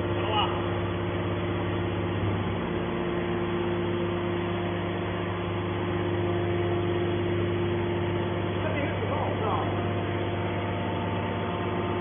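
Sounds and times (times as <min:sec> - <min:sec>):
hydraulic motor and pump running: 0:00.0 - 0:12.0.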